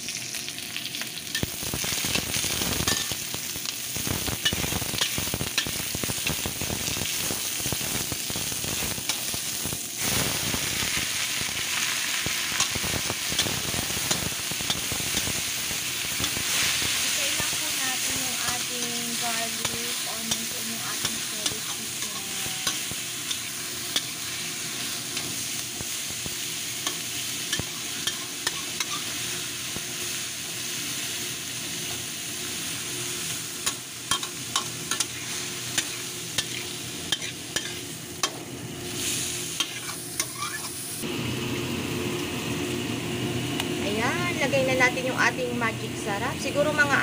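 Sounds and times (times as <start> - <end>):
food sizzling in hot oil: 0.0 - 47.0.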